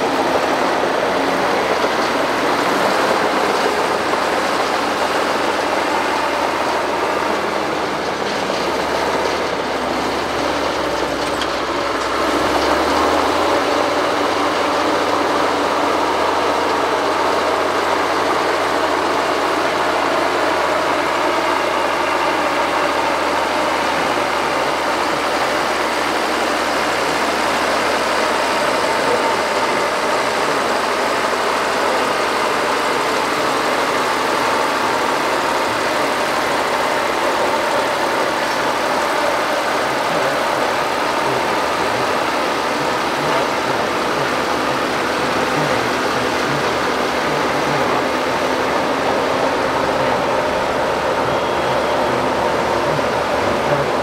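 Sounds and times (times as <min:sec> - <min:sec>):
bulldozer diesel engines working: 0:00.0 - 0:54.0.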